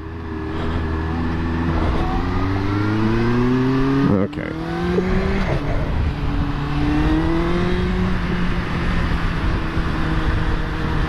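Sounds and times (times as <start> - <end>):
motorcycle engine and exhaust: 0.0 - 11.0.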